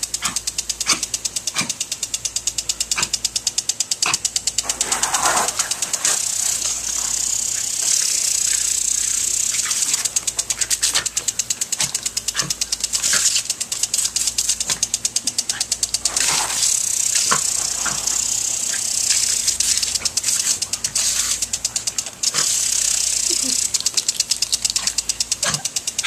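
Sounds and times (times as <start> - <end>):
lawn sprinkler clicking: 0.0 - 26.0
water jet hissing: 4.6 - 26.0.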